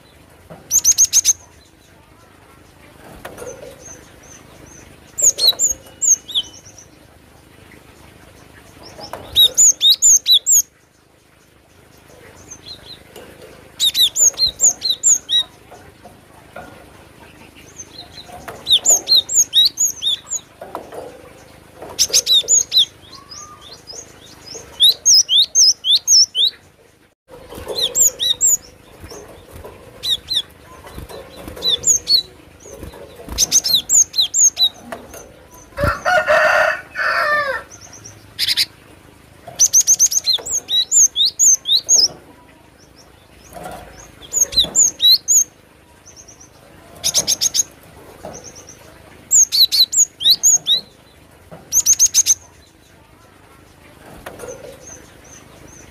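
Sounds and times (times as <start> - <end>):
bird chirping in rapid bursts: 0.0 - 2.8, 3.4 - 7.1, 7.7 - 13.1, 13.7 - 15.8, 17.3 - 36.0, 37.7 - 38.8, 39.5 - 42.2, 42.8 - 52.9.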